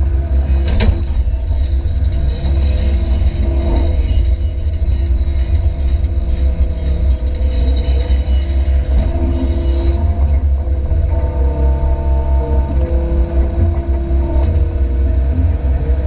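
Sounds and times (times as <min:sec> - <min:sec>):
excavator diesel engine rumbling: 0:00.0 - 0:16.0.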